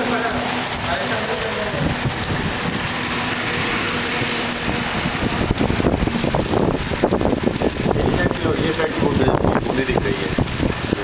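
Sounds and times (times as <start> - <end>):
low rumbling noise: 0.0 - 11.0
rain falling: 0.0 - 11.0.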